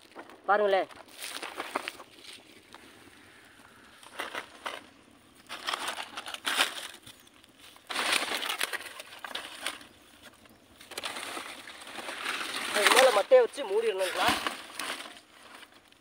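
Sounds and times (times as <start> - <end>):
dry palm fronds rustling: 0.0 - 16.0.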